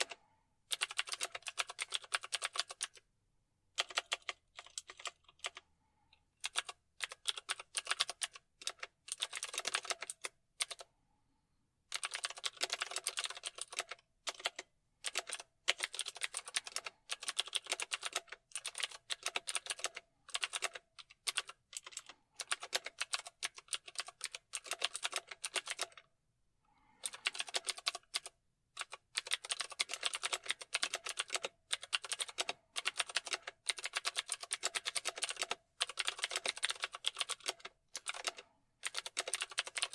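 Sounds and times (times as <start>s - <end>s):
keyboard typing: 0.0s - 3.0s, 3.8s - 10.9s, 11.9s - 26.1s, 27.0s - 39.9s.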